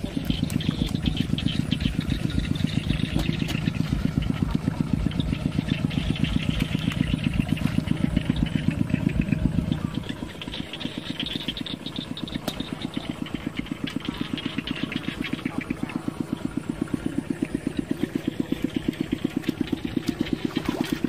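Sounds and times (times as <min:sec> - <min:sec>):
small engine chugging: 0:00.0 - 0:21.0.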